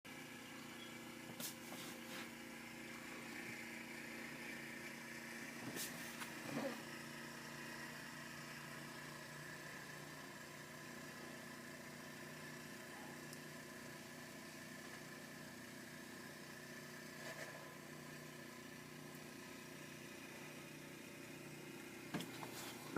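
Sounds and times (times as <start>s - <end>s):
small motor humming: 0.1s - 22.9s.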